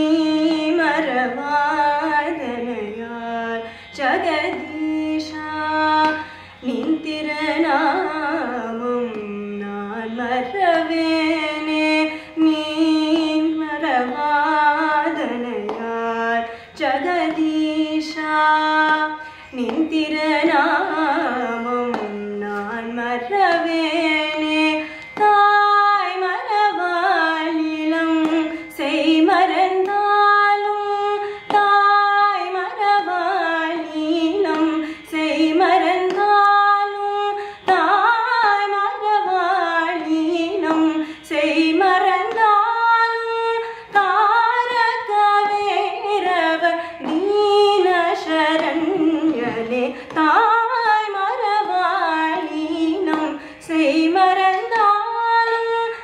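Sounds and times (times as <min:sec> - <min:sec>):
woman singing: 0:00.0 - 0:56.0.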